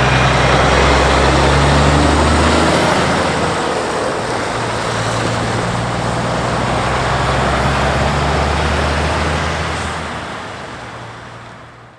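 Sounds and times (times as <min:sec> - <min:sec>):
road and tyre noise: 0:00.0 - 0:11.9
truck diesel engine driving by: 0:00.0 - 0:11.9.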